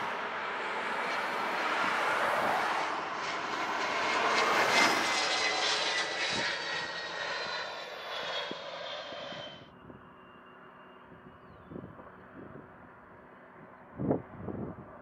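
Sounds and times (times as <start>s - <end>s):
jet passing with falling whine: 0.0s - 13.5s.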